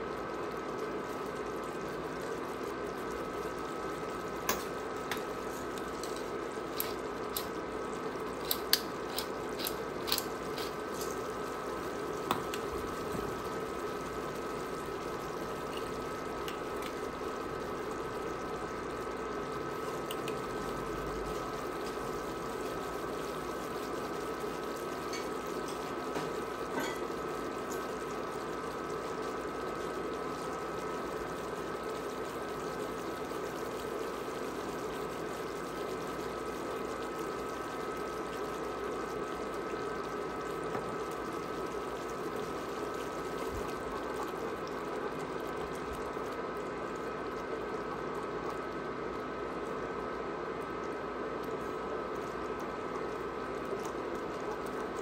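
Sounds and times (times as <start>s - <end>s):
faint steady hum: 0.0s - 55.0s
thick sauce bubbling in skillet: 0.0s - 55.0s.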